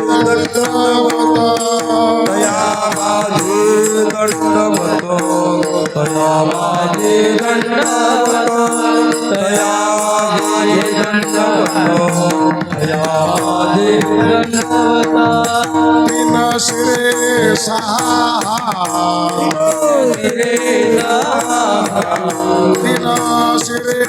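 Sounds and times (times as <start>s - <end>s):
devotional singing voices: 0.0s - 24.0s
percussion steady beat: 0.0s - 24.0s.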